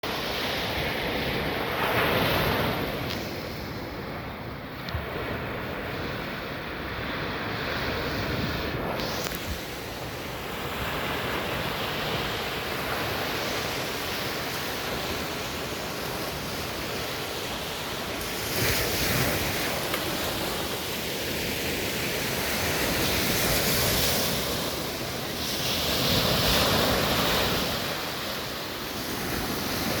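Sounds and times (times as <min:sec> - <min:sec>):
ocean surf washing onto beach: 0:00.0 - 0:30.0
waves breaking: 0:00.0 - 0:30.0.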